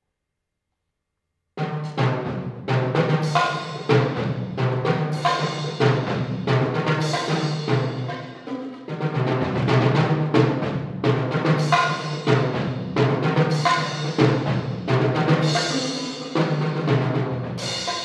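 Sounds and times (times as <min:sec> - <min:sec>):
drum strokes on toms: 0:01.6 - 0:18.0.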